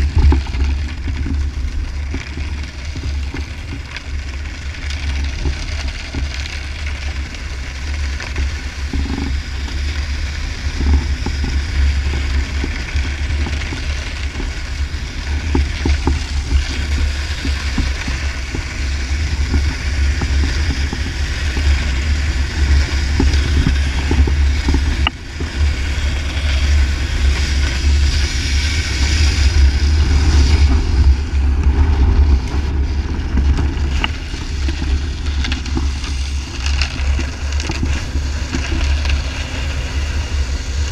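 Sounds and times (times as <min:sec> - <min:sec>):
snowboard sliding on ice: 0:00.0 - 0:40.9
wind buffeting microphone: 0:00.0 - 0:40.9.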